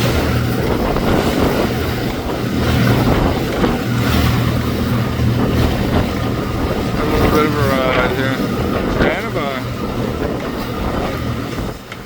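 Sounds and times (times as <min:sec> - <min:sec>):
motorboat engine humming: 0:00.0 - 0:12.0
wind buffeting microphone: 0:00.0 - 0:12.0.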